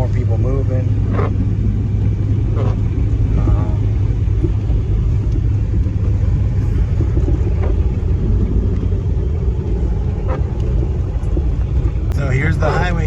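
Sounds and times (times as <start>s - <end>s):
car engine rumble: 0.0s - 13.0s
tyres on snowy road: 0.0s - 13.0s.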